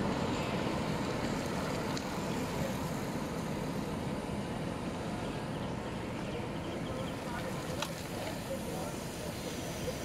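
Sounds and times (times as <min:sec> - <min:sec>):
road noise rumble and hiss: 0:00.0 - 0:10.0.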